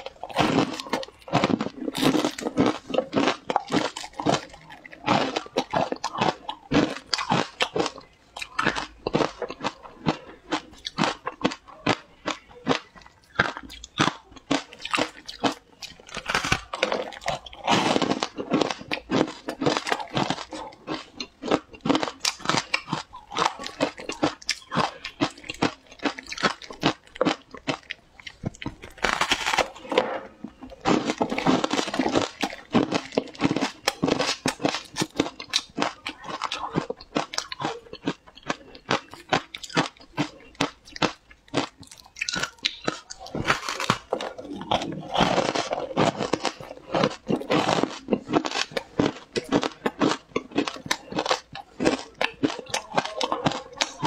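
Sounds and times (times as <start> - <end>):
crunching and chewing shaved ice: 0.0 - 54.0.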